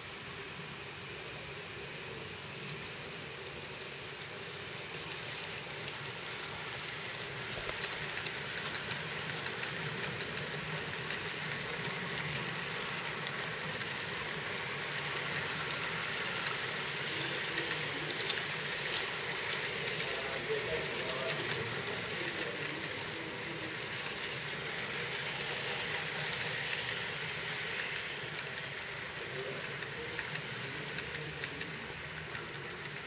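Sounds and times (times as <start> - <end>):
model train wheels whirring: 0.0 - 33.0.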